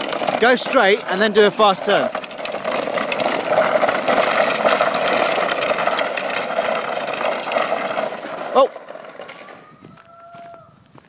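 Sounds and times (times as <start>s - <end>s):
plastic wheels grinding on tarmac: 0.0s - 11.0s.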